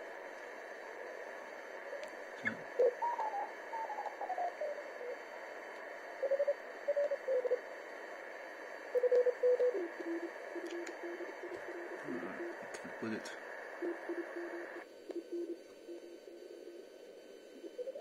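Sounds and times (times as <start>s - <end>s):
radio band hiss: 0.0s - 18.0s.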